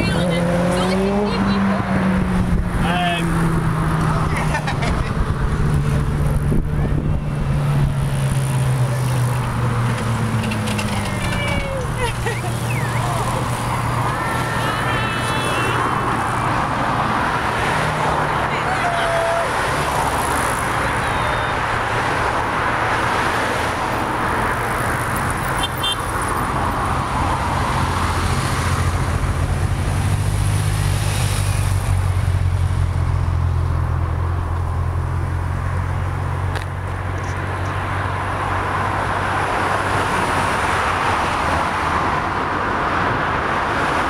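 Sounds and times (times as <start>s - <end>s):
cars passing on a road: 0.0s - 44.0s.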